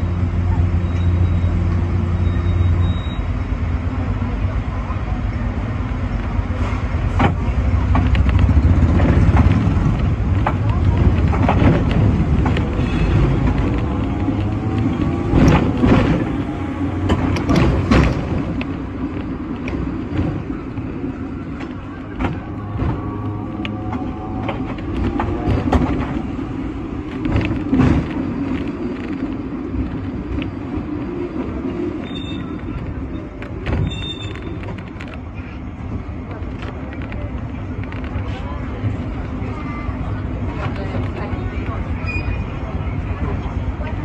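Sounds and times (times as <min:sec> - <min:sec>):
tram rumbling on rails: 0:00.0 - 0:44.0.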